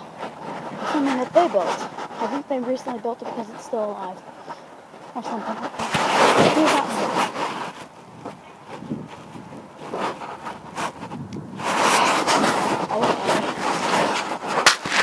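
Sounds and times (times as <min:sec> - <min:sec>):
rustles and clicks: 0:00.0 - 0:15.0
wind on microphone: 0:00.0 - 0:15.0.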